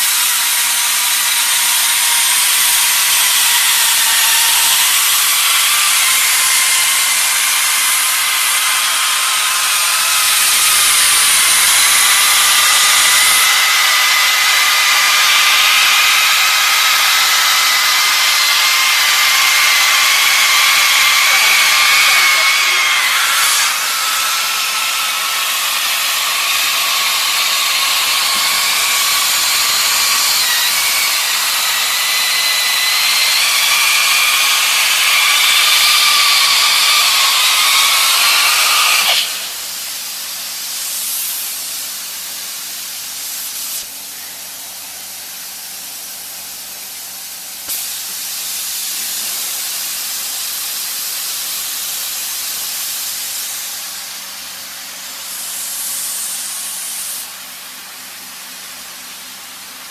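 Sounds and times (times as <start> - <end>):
hot air hiss from nozzle: 0.0 - 59.9.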